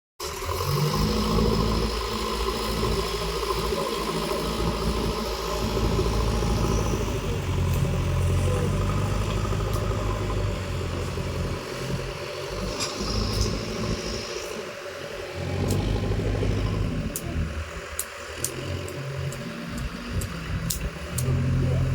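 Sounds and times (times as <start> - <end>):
diesel engine running: 0.2 - 21.9.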